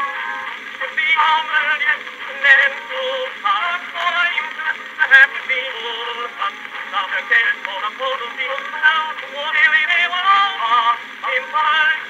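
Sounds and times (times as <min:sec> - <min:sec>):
singer on old phonograph recording: 0:00.0 - 0:12.0.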